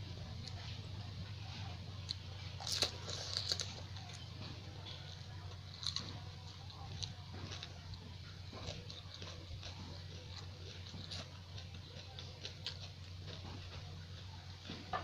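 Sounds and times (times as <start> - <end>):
steady low hum: 0.0 - 15.0
crisp shells crunching when chewed: 2.0 - 15.0.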